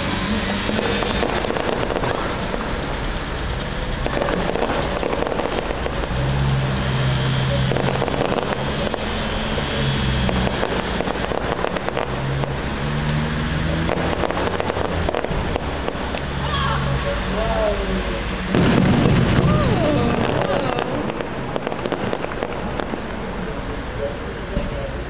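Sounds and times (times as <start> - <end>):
distant fireworks bangs and crackles: 0.0 - 25.0.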